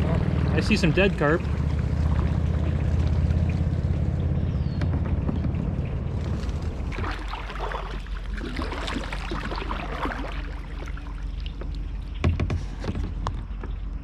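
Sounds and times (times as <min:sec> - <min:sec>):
paddle swishing through water: 0:00.0 - 0:04.0, 0:04.8 - 0:13.9
low rumble: 0:00.0 - 0:14.0.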